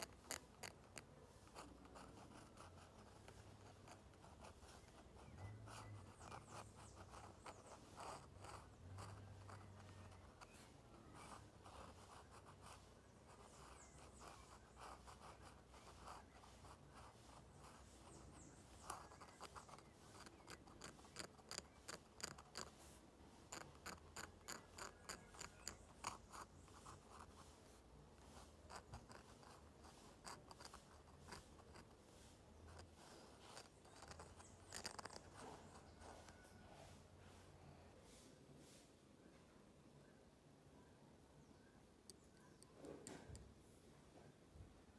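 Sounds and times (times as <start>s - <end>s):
pen nib scratching on paper: 0.0s - 36.6s.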